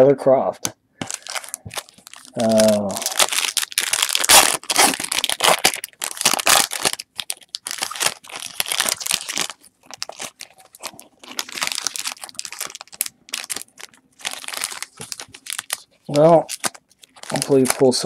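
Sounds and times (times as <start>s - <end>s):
foil wrapper crinkling and tearing: 1.0s - 18.0s.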